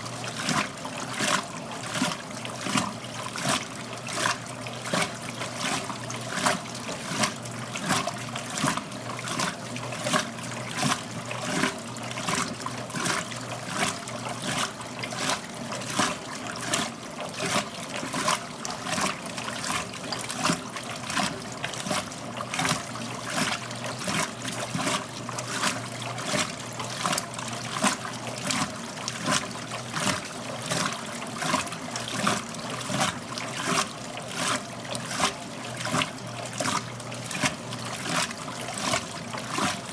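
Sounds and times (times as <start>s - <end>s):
washing machine sloshing water: 0.0s - 39.9s.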